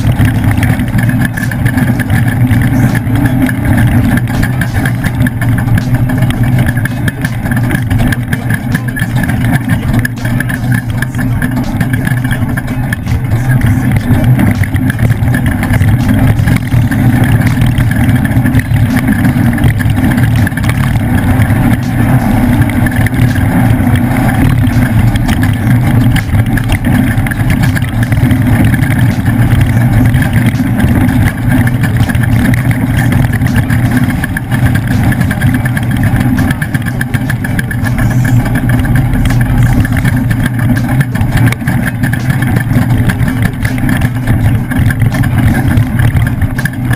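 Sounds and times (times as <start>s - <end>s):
race truck engine running loud: 0.0s - 46.9s.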